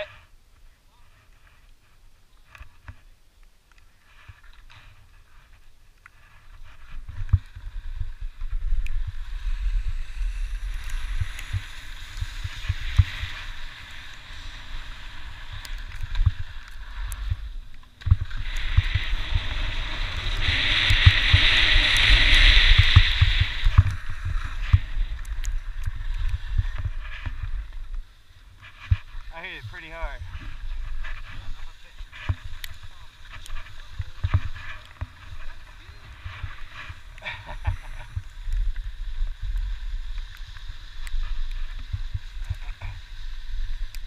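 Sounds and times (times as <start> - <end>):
skis scraping over snow: 3.8 - 44.0.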